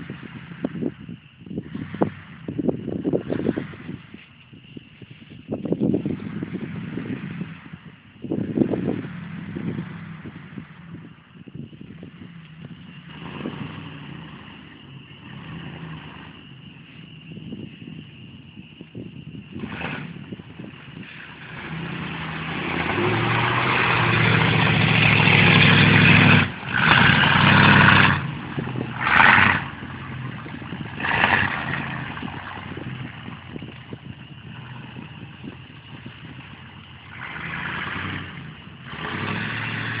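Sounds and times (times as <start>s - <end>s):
truck engine revving: 1.6s - 4.1s, 5.9s - 11.2s, 11.8s - 16.7s, 19.4s - 40.0s.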